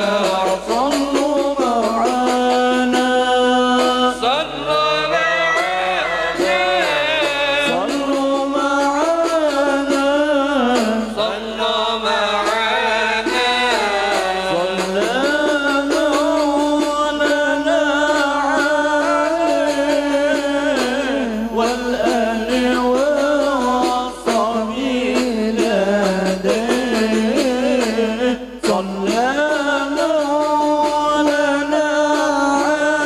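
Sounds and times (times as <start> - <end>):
men singing through microphones: 0.0 - 33.0.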